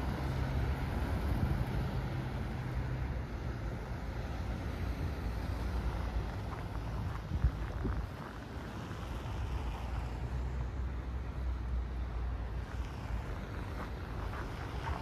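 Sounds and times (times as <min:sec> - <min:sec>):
low engine hum: 0:00.0 - 0:15.0
traffic rumble: 0:00.0 - 0:15.0.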